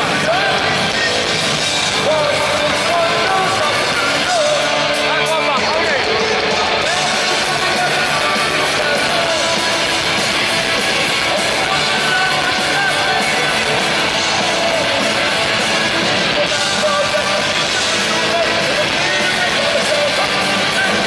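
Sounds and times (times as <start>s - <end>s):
distorted electric guitars: 0.0s - 21.0s
drums: 0.0s - 21.0s
person singing: 0.0s - 21.0s.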